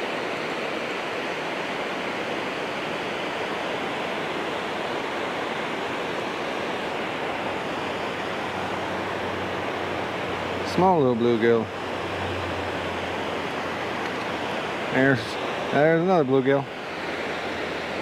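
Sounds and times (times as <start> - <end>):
water rushing over a spillway: 0.0 - 18.0.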